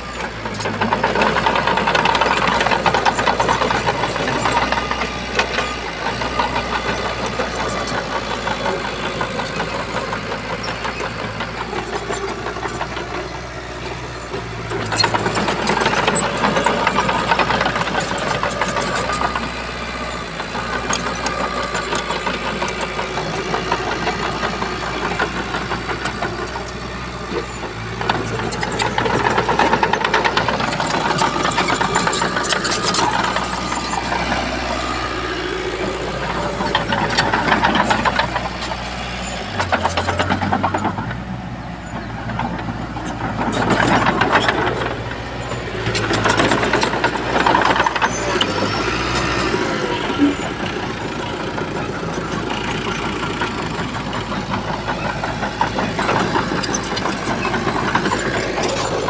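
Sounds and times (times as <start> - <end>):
bulldozer diesel engine under load: 0.0 - 59.0
rattling clatter: 0.0 - 59.0.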